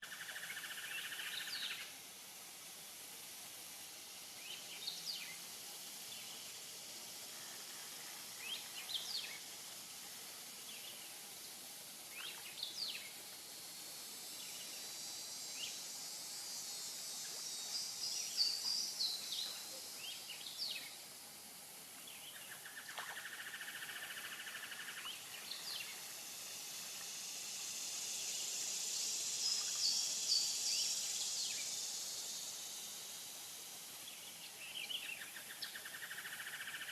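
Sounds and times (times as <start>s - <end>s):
insect drone: 0.0s - 36.9s.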